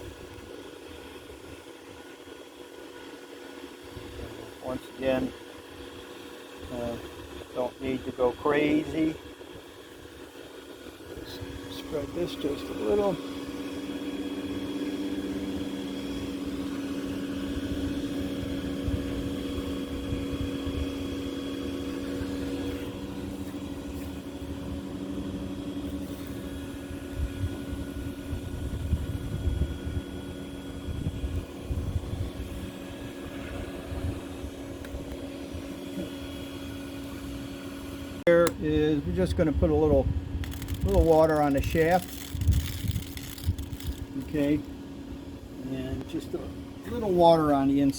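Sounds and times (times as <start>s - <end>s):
machine humming: 0.0s - 47.9s.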